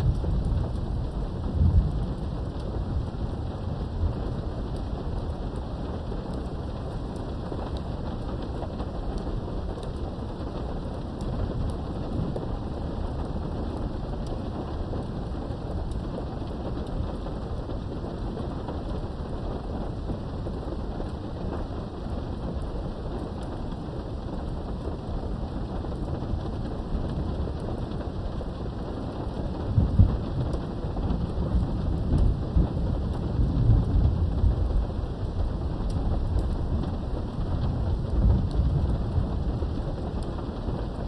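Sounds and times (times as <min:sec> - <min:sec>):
low thunder rumble: 0:00.0 - 0:41.0
rain heard through a window: 0:00.0 - 0:41.0.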